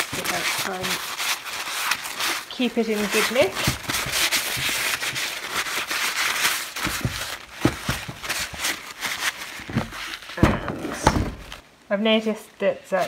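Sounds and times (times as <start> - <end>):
paper towel rubbing plastic: 0.0 - 11.6.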